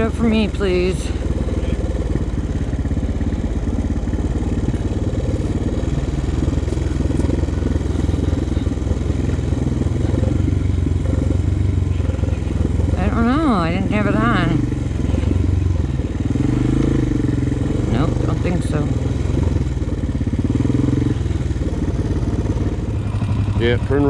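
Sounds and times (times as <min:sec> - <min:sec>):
atv engine running at low speed: 0:00.0 - 0:24.0.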